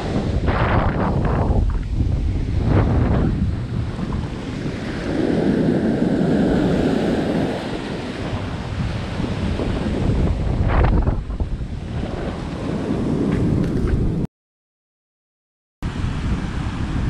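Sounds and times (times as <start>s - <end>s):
surf washing up beach: 0.0s - 13.6s, 15.9s - 17.0s
wind rumbling on microphone: 0.0s - 14.3s, 15.8s - 17.0s.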